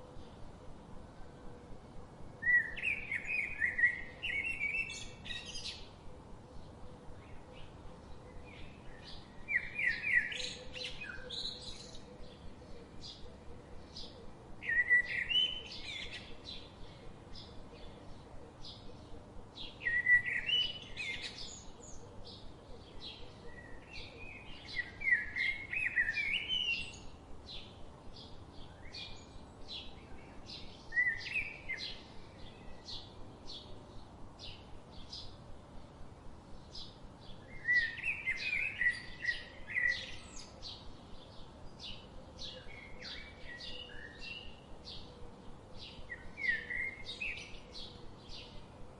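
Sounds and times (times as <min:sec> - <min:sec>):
small birds chirping: 0:02.4 - 0:48.9.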